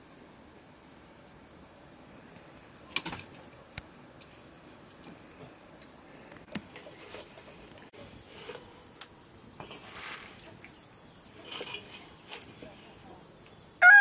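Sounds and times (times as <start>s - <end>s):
rustle of leafy greens: 2.2s - 13.7s.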